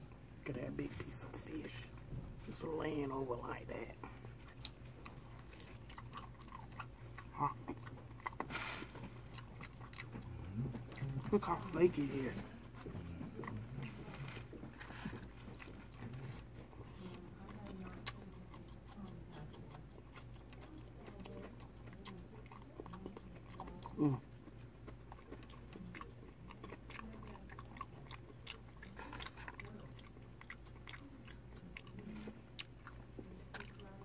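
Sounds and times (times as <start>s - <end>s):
person chewing crispy fish: 4.2s - 11.4s, 12.6s - 34.0s.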